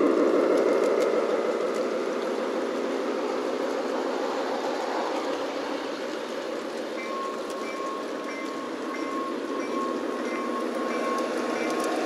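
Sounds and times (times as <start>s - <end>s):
model railcar rumbling on rails: 0.0s - 12.0s.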